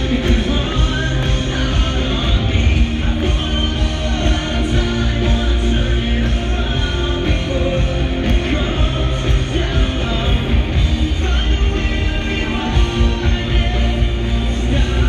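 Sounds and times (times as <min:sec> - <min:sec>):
live rock band playing: 0:00.0 - 0:15.0
man singing into microphone: 0:00.0 - 0:15.0.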